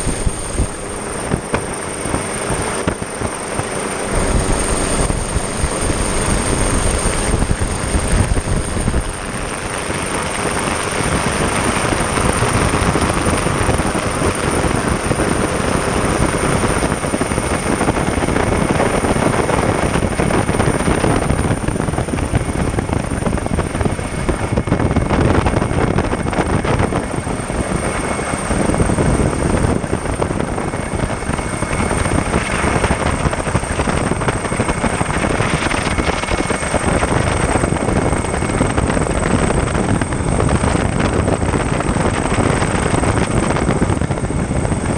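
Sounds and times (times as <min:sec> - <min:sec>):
aircraft engine and airflow noise: 0:00.0 - 0:44.9
thin high whine: 0:00.0 - 0:44.9.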